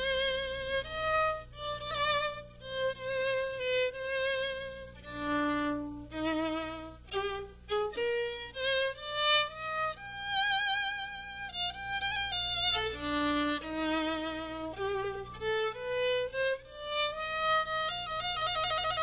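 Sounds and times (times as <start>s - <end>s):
solo violin melody: 0.0s - 19.0s.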